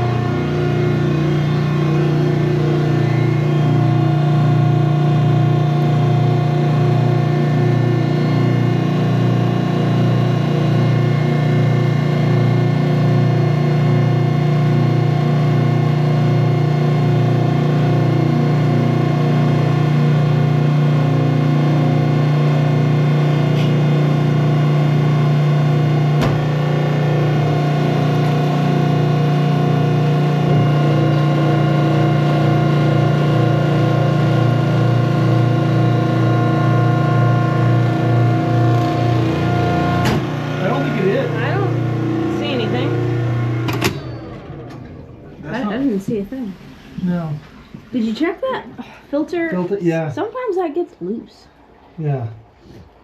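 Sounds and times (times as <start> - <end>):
pump motor pulsing hum: 0.0 - 50.1.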